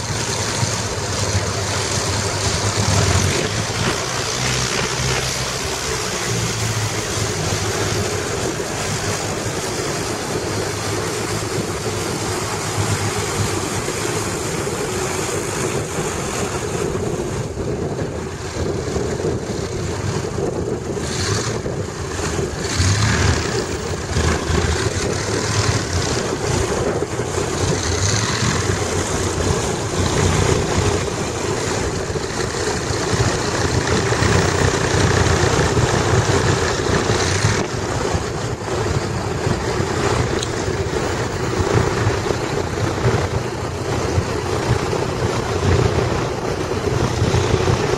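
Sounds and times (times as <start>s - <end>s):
propeller plane engine droning: 0.0s - 47.9s.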